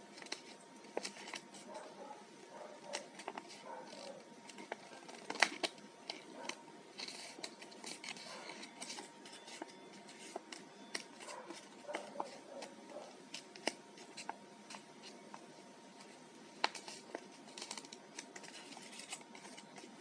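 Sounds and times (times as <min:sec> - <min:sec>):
sharp paper crease clicks: 0:00.0 - 0:02.0, 0:02.7 - 0:20.0
paper crinkling and rustling: 0:00.0 - 0:20.0.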